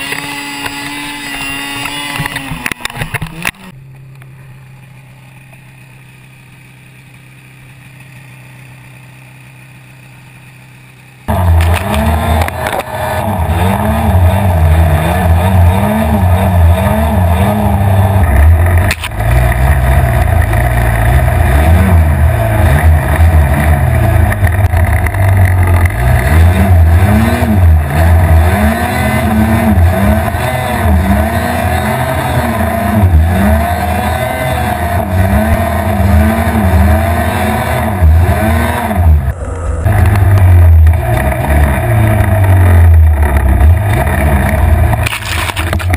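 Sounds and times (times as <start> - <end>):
snowmobile engine revving: 0.0 - 3.8, 11.2 - 45.9.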